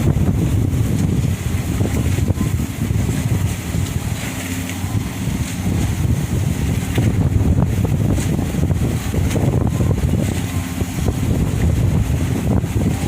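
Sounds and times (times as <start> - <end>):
ferry engines humming: 0.0 - 13.0
wind buffeting microphone: 0.0 - 13.0.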